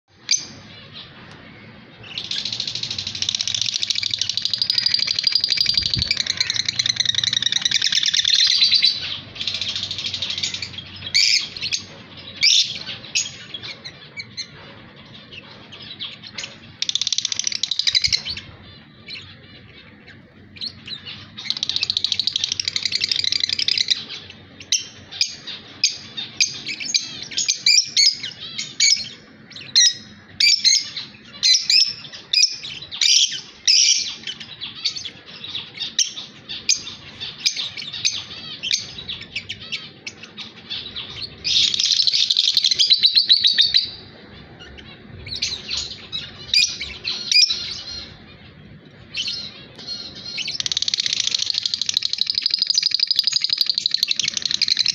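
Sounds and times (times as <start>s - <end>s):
lovebirds chattering: 0.1s - 54.9s.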